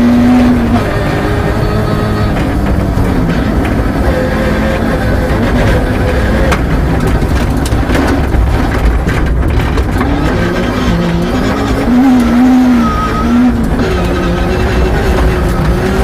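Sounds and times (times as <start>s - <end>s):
car rumbling on gravel road: 0.0s - 16.0s
rally car engine running hard: 0.0s - 16.0s.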